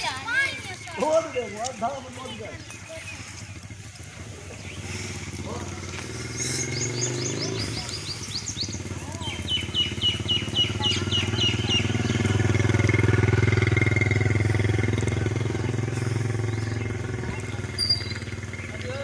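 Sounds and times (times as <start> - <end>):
bird chirping: 0.0 - 14.1, 15.4 - 19.0
vehicle engine passing: 1.1 - 19.0.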